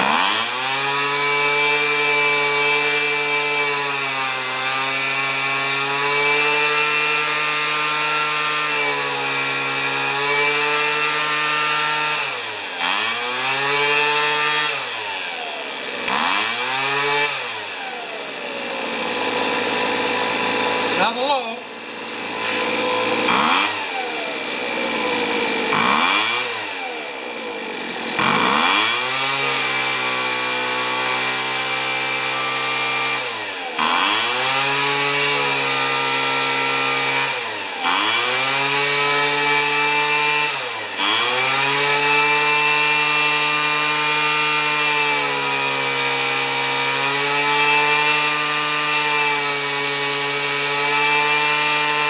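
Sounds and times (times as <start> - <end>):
leaf blower engine revving: 0.0 - 52.0.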